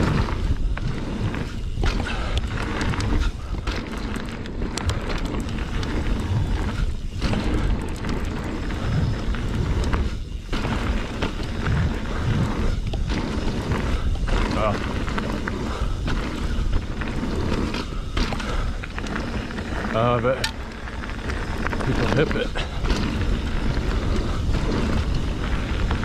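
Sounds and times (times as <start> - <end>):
bike tyres rolling on dirt: 0.0 - 26.0
wind buffeting microphone: 0.0 - 26.0.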